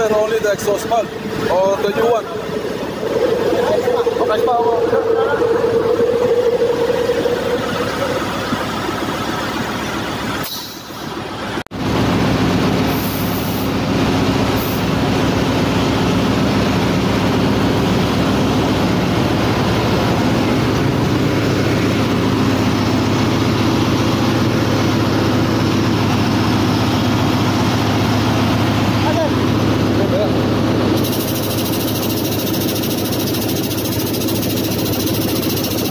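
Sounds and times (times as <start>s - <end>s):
engine room machinery droning: 0.0s - 35.9s.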